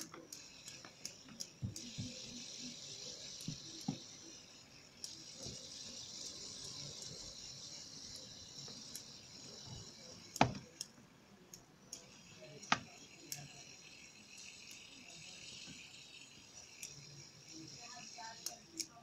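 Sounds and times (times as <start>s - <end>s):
fidget spinner clicking: 0.0s - 19.0s
fidget spinner ticking: 0.0s - 19.0s.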